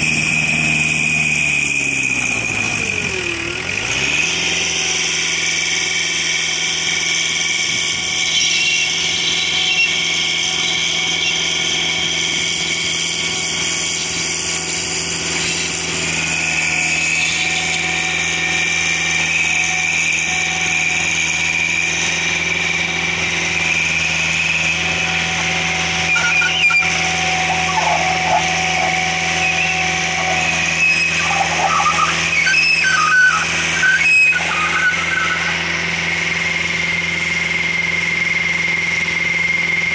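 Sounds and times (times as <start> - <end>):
digging chain cutting dirt: 0.0 - 38.2
trencher engine running under load: 0.0 - 39.9.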